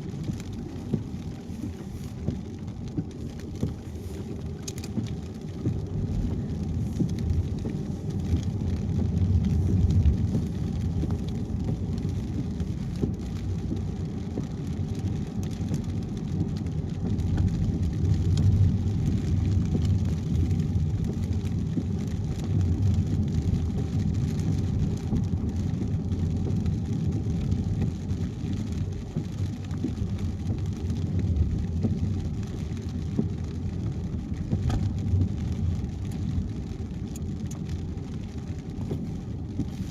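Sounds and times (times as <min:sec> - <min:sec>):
rain and spray hiss: 0:00.0 - 0:39.9
road and tyre rumble: 0:00.0 - 0:39.9.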